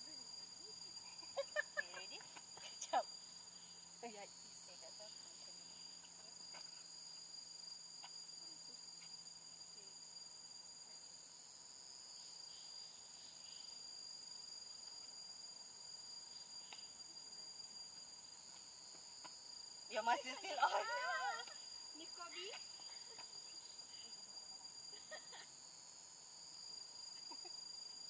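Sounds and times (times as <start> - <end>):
forest insects droning: 0.0 - 28.0.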